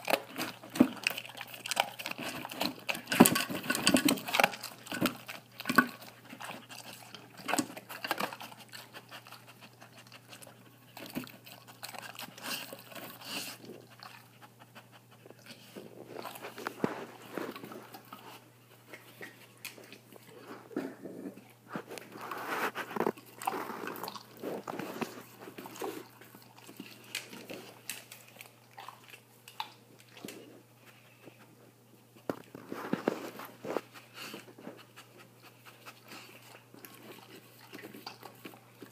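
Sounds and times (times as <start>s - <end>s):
dog crunching food: 0.0s - 14.6s, 15.2s - 31.0s, 32.2s - 38.9s.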